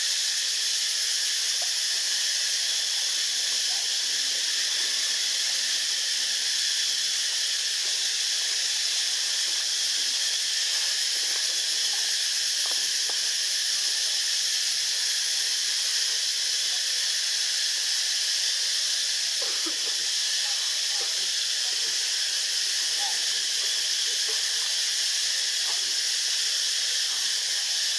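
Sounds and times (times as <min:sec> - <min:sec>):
steady high-pitched hiss: 0:00.0 - 0:27.9.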